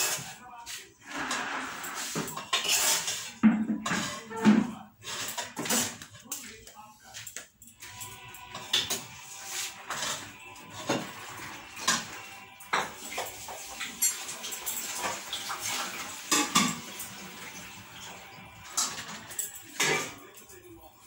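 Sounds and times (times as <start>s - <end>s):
metal dishes clinking: 1.1s - 6.5s, 7.8s - 20.6s.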